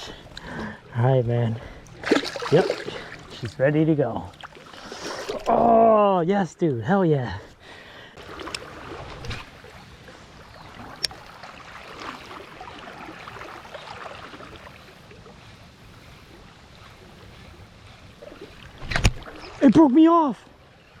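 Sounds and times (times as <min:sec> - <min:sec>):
shallow river water splashing: 0:01.5 - 0:05.8, 0:08.1 - 0:21.0.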